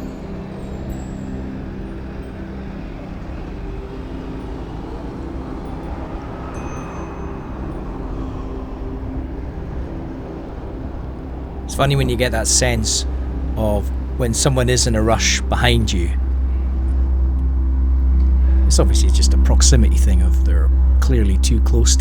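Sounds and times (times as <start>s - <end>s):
traffic idling engine hum: 0.0s - 22.0s.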